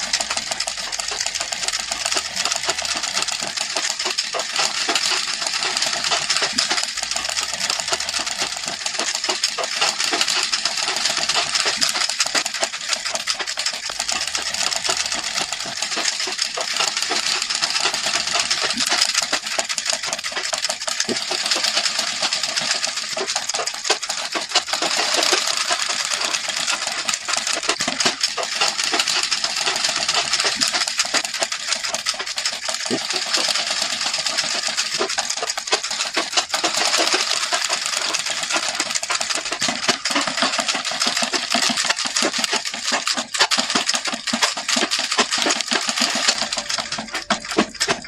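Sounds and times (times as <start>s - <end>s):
sewing machine clattering: 0.0s - 48.0s.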